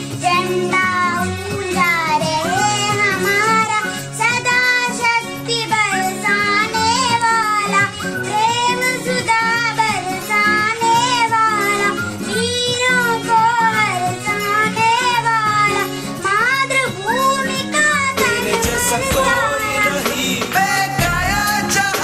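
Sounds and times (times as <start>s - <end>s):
girl singing: 0.0s - 21.8s
instrumental backing track: 0.0s - 22.0s.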